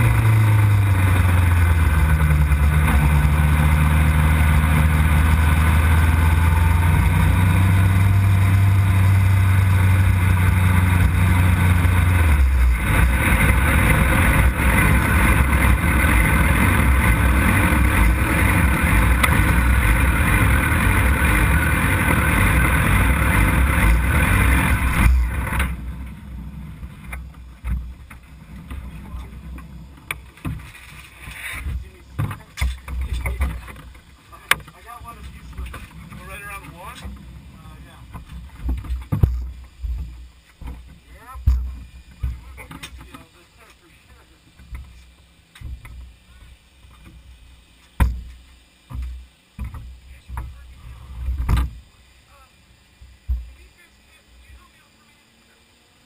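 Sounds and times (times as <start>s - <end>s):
motorcycle engine idling: 0.0s - 47.3s.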